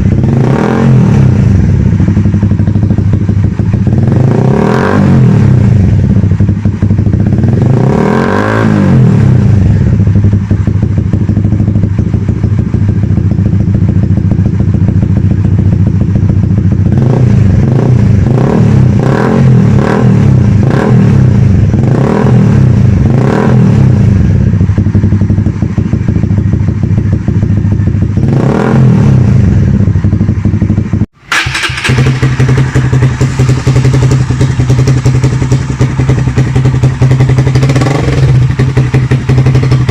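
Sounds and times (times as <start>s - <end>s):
motorcycle idling and revving: 0.0s - 39.9s.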